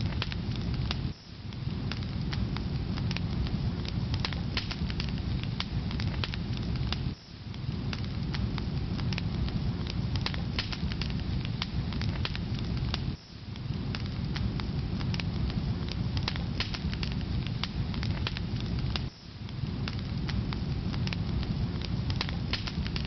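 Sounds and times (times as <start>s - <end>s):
fire rumbling: 0.0s - 23.0s
logs crackling and popping: 0.0s - 23.0s.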